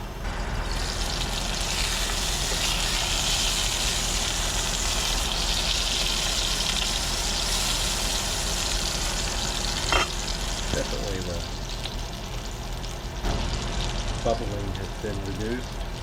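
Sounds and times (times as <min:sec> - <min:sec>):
meat sizzling in a frying pan: 0:00.3 - 0:16.0.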